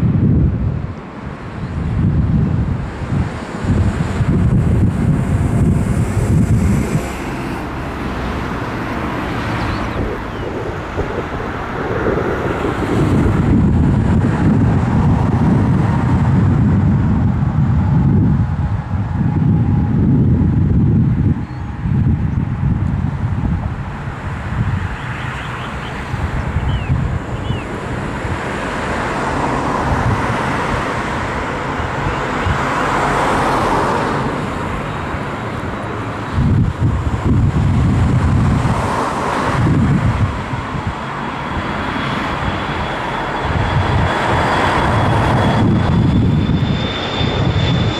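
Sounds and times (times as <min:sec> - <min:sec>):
jet engines rumbling: 0:00.0 - 0:47.9
wind buffeting microphone: 0:00.0 - 0:47.9.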